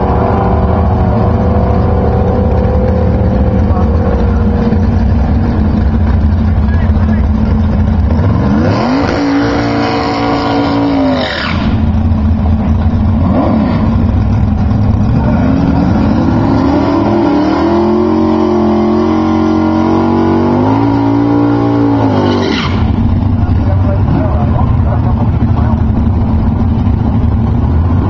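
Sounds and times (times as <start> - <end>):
drag car engine revving: 0.0 - 28.0.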